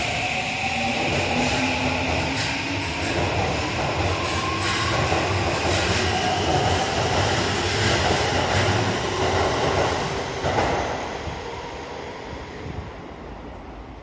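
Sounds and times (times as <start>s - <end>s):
subway train rumbling on rails: 0.0s - 14.0s.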